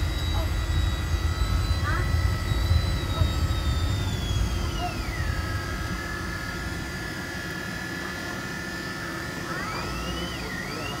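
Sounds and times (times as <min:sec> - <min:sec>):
high engine whine: 0:00.0 - 0:11.0.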